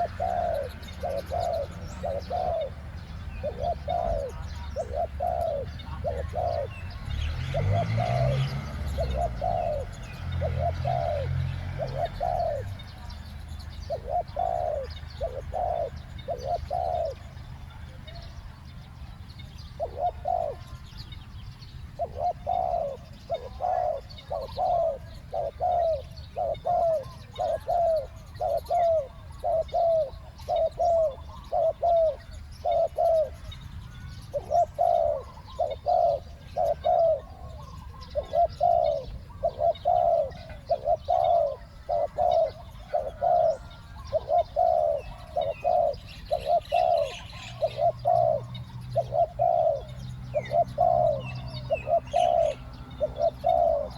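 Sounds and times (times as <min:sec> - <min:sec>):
doves cooing: 0:00.0 - 0:53.9.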